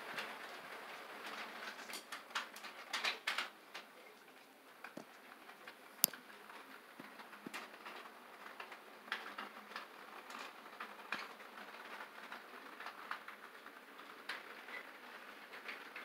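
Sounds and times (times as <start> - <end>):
model train wheels clicking: 0.0 - 16.0.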